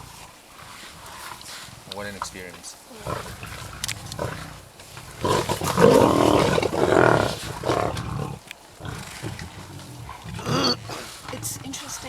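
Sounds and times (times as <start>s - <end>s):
lions growling and snarling: 0.0s - 12.0s.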